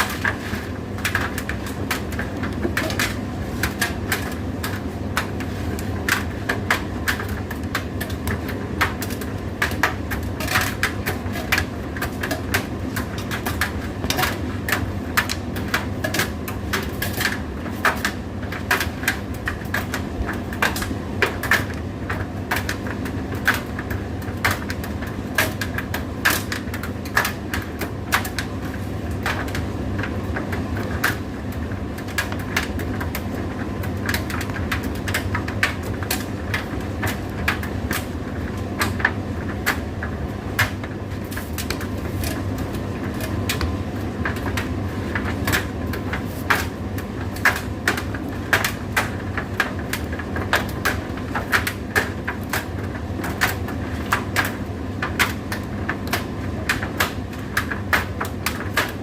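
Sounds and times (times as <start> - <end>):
tumble dryer motor hum: 0.0 - 59.0.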